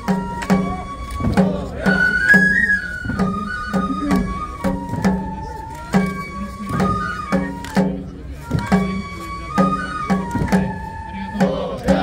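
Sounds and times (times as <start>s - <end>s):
flute melody: 0.0s - 12.0s
steady drum beats: 0.0s - 12.0s.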